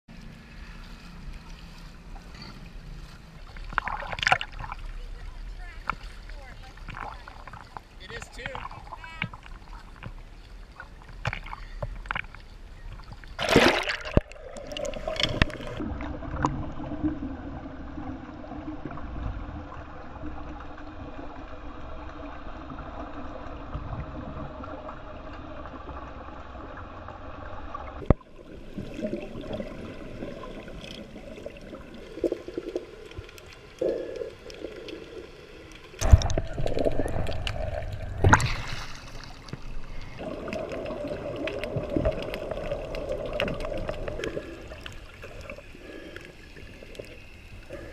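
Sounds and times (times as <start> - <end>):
muffled underwater water noise: 0.1 - 47.9
sea water splashing: 0.1 - 47.9.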